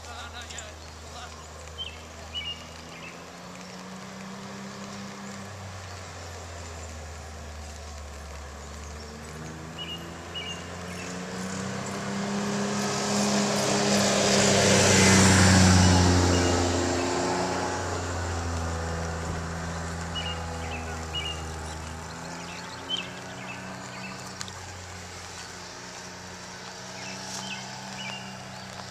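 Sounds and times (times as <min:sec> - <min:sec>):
utility vehicle engine passing: 0:00.0 - 0:28.9.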